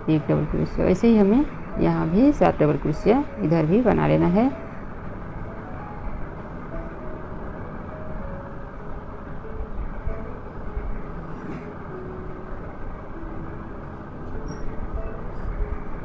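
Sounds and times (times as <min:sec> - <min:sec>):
steady rumbling noise: 0:00.0 - 0:16.0.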